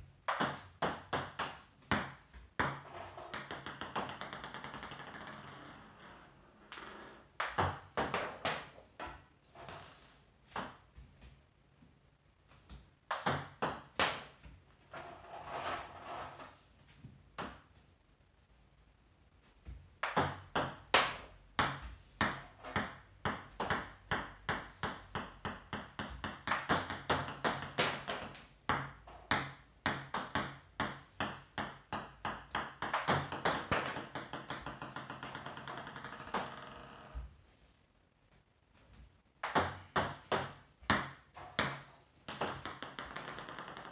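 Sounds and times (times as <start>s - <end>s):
table tennis balls bouncing: 0.2s - 11.3s, 12.5s - 16.6s, 17.3s - 17.8s, 19.6s - 37.3s, 39.4s - 43.9s.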